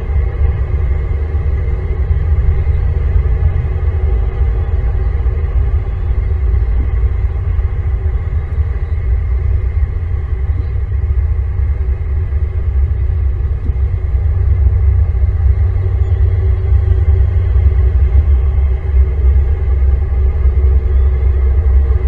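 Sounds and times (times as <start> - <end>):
faint constant hum: 0.0 - 22.0
loud low rumble: 0.0 - 22.0.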